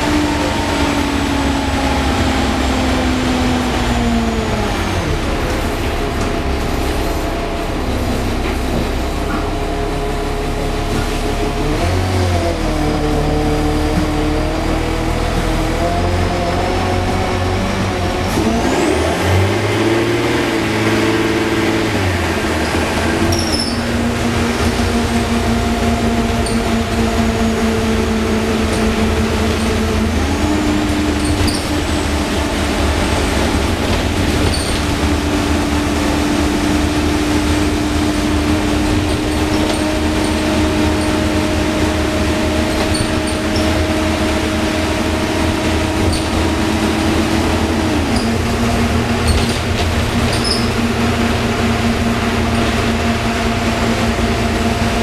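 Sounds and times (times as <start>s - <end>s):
bus diesel engine drone: 0.0s - 55.0s.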